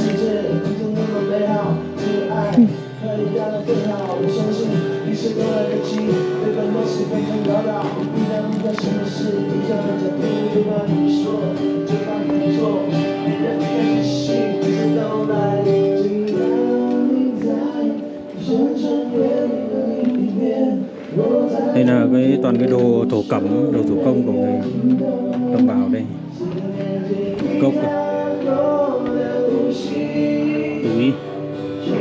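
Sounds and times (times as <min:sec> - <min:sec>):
guitar accompaniment: 0:00.0 - 0:32.0
man singing slow song: 0:00.0 - 0:32.0.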